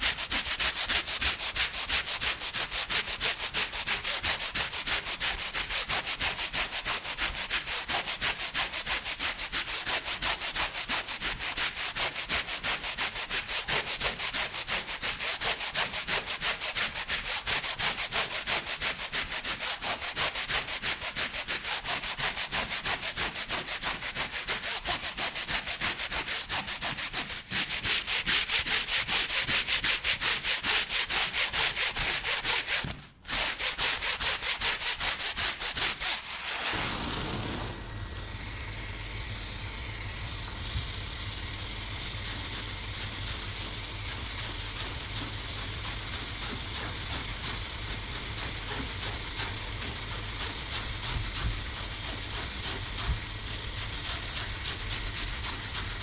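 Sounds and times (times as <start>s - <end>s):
rug being scrubbed by hand: 0.0s - 37.0s, 42.2s - 56.0s.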